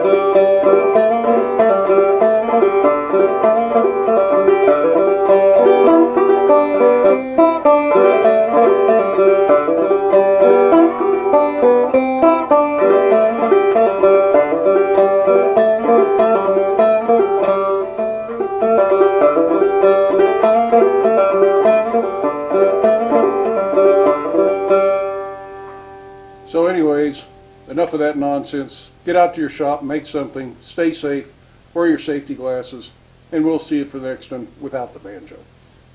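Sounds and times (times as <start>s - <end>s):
banjo plucked notes: 0.0s - 29.5s.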